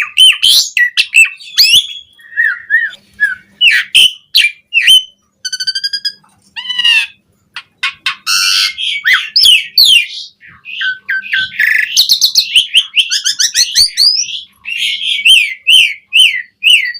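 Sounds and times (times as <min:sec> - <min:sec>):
starling singing: 0:00.0 - 0:16.9.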